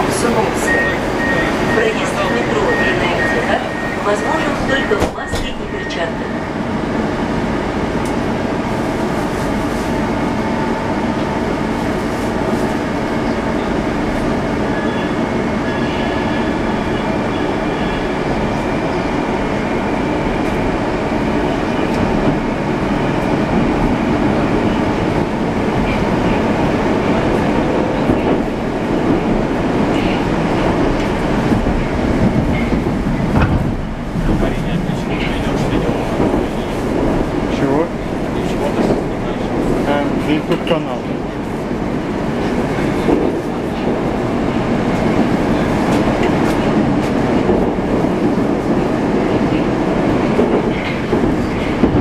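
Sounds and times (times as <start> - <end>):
subway wheels rumbling on rail: 0.0 - 52.0.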